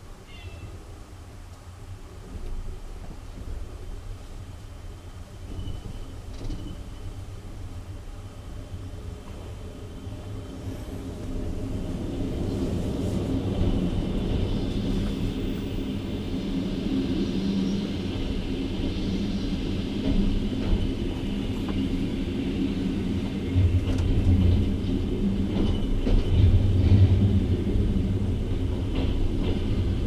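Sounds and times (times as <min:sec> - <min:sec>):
train wheels rumbling on rails: 0:01.2 - 0:30.0.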